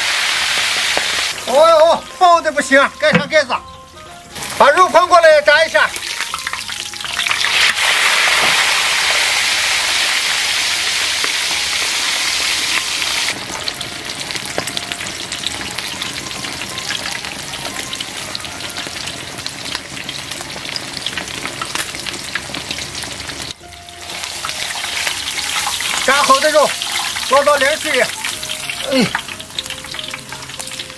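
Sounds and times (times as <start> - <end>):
oil popping and crackling: 0.0 - 30.9
pork belly deep-frying in oil: 0.0 - 30.9.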